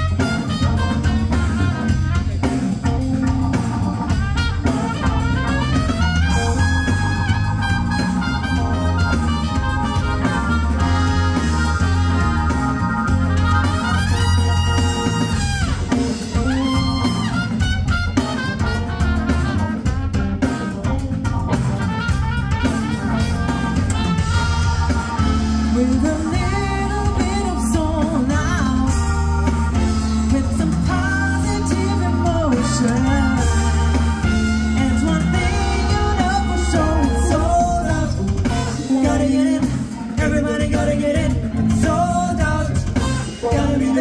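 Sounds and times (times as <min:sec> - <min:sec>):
brass or organ: 0:00.0 - 0:40.4, 0:42.1 - 0:44.0
drum beat: 0:00.0 - 0:44.0
music with singing: 0:00.0 - 0:44.0.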